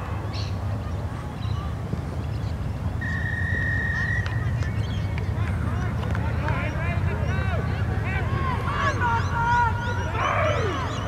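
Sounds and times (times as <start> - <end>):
voices of players and spectators: 0.0 - 11.0.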